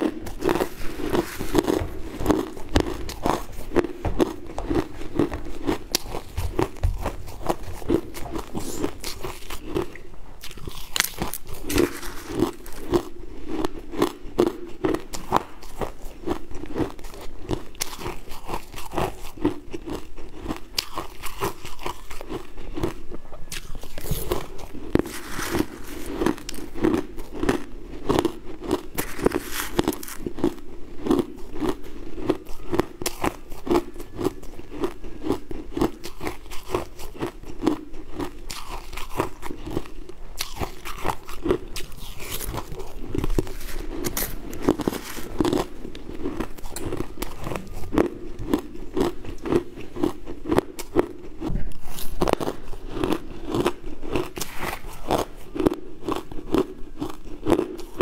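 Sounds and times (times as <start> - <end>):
person crunching and chewing food: 0.0 - 58.0.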